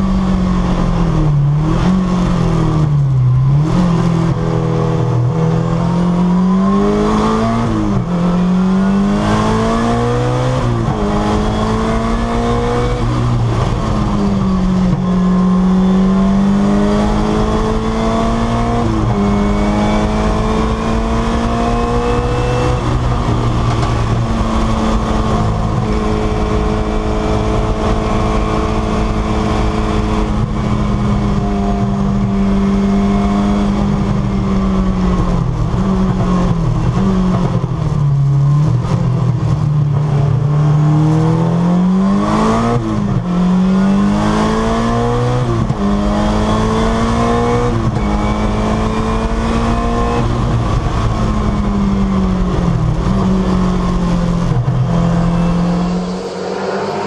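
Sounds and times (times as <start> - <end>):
turbocharged car engine revving: 0.0 - 57.0.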